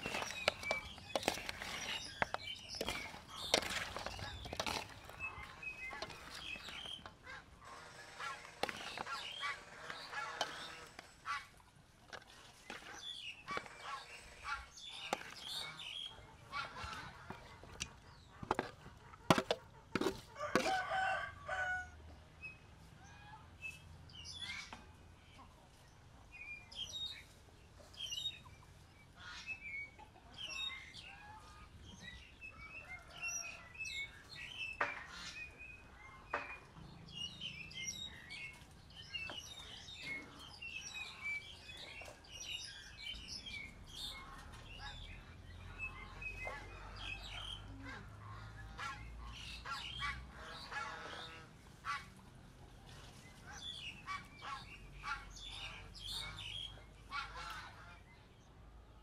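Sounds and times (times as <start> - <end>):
birds chirping: 0.0 - 21.8, 26.2 - 59.0.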